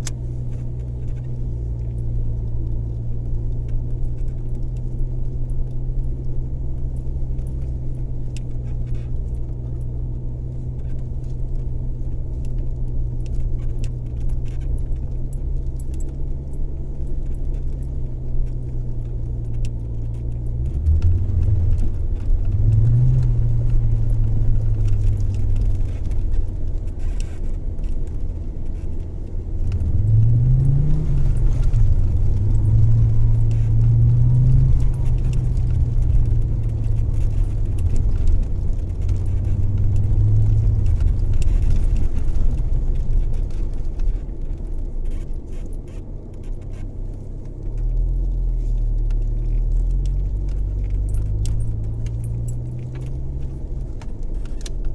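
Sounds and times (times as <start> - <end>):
car engine rumble: 0.0 - 54.9.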